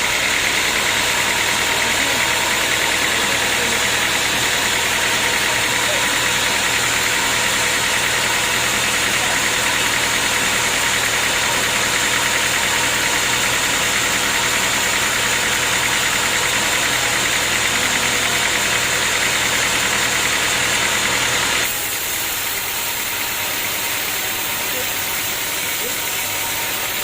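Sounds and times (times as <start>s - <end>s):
sawmill machinery humming: 0.0s - 27.0s.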